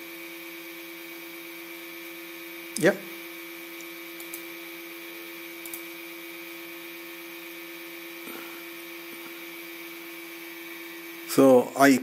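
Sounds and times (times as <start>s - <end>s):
electrical hum with tones: 0.0s - 12.0s.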